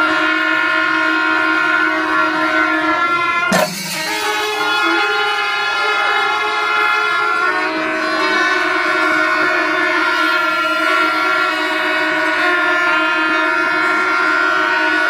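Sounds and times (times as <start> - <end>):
brass horns blowing long blasts: 0.0 - 15.0.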